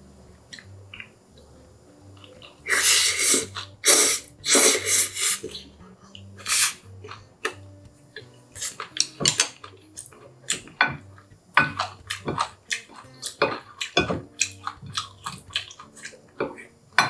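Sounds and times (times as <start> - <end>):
chewing: 2.1 - 4.6, 5.2 - 16.8.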